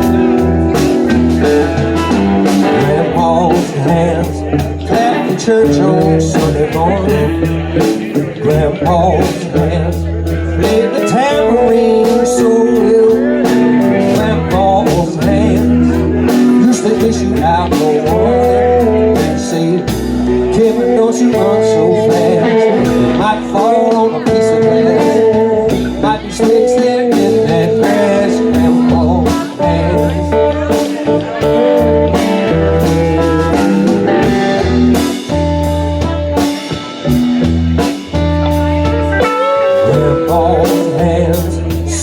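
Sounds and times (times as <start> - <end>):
live band playing blues: 0.0 - 42.0
pulsing bass line: 0.0 - 42.0.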